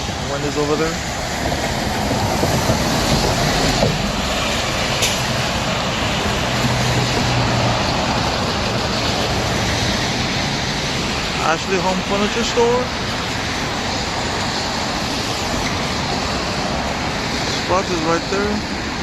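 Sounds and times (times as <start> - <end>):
passing vehicle engine hum: 0.0 - 18.2
street traffic: 0.0 - 19.0.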